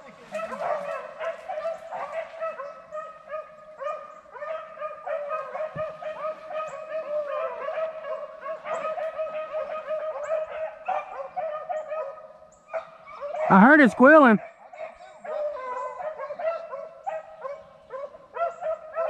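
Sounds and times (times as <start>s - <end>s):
pack of hounds baying: 0.1s - 19.0s.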